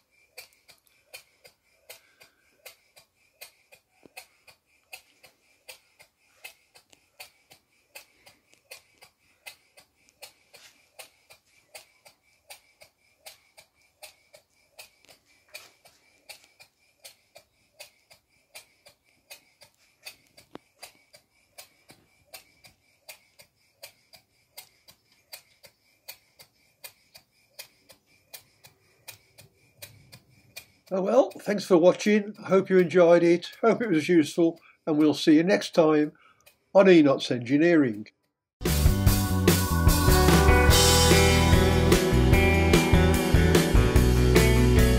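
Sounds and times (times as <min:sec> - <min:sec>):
model engine ticking: 0:00.0 - 0:38.1.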